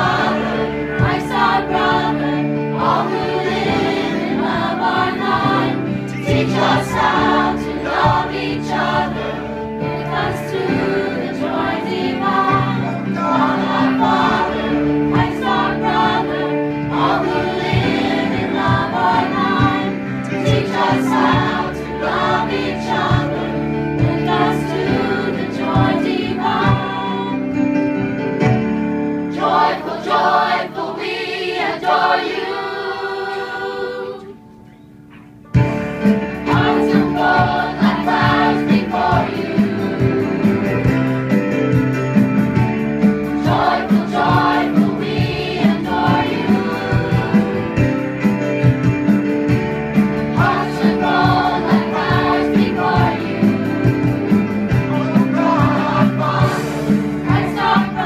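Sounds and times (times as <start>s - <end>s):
choir singing: 0.0s - 27.8s, 29.3s - 34.7s, 36.4s - 41.4s, 43.2s - 48.2s, 50.1s - 58.0s.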